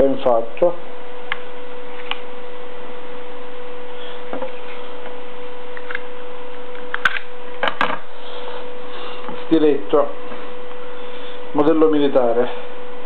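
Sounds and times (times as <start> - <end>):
electrical hum and hiss: 0.0 - 13.0.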